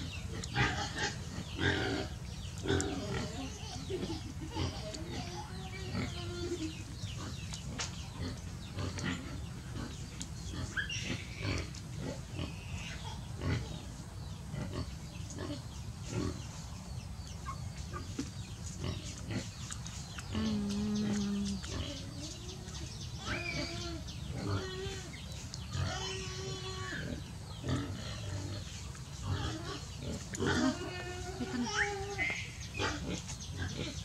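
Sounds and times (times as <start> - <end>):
animal grunts and squeaks: 0.0 - 13.8, 17.4 - 34.0
lotus pods and leaves rustling: 0.0 - 34.0.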